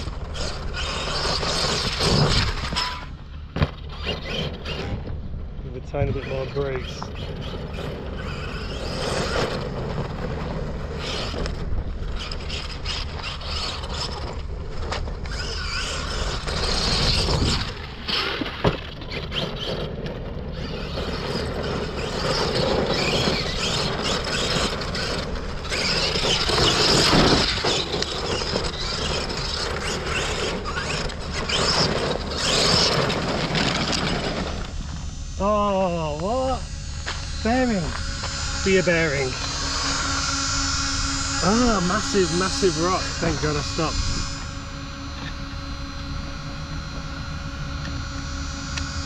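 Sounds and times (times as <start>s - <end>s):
rc car motor whining: 0.0s - 49.0s.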